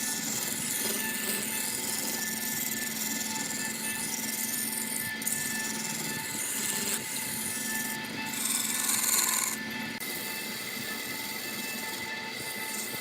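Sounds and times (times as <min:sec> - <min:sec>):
lathe motor humming: 0:00.0 - 0:13.0
tool scraping spinning wood: 0:00.0 - 0:13.0.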